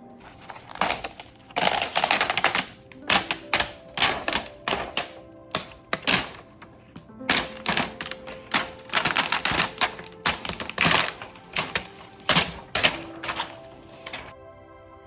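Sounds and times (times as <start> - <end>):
soft background music: 0.0 - 15.0
scratching and tapping strokes: 0.2 - 14.3.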